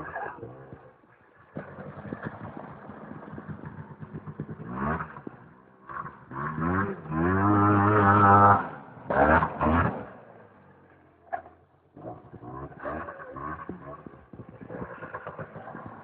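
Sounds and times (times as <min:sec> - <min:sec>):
small engine idling and revving: 0:00.0 - 0:16.0.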